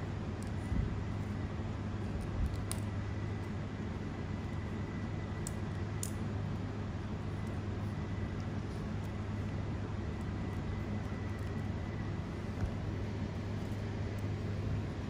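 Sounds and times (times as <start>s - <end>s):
low background hum and rumble: 0.0s - 15.0s.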